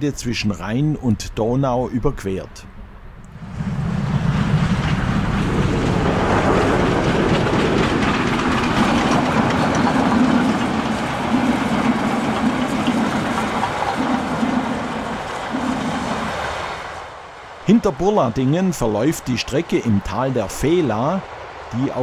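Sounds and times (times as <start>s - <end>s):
steam train rumbling past: 2.4s - 22.0s.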